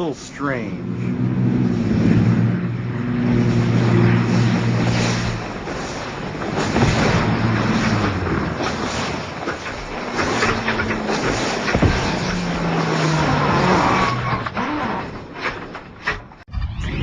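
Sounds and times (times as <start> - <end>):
aircraft engine drone: 0.0 - 14.1.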